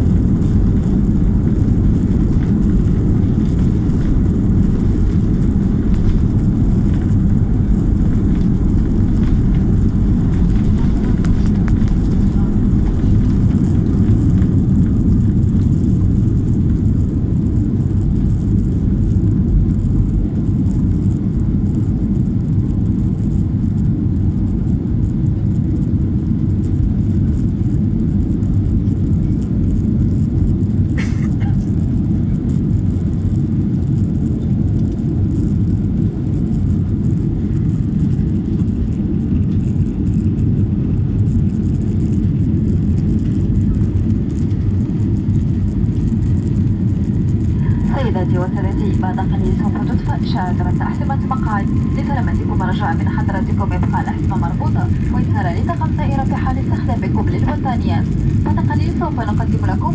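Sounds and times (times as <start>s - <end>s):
jet engines and airflow rumble: 0.0s - 59.9s.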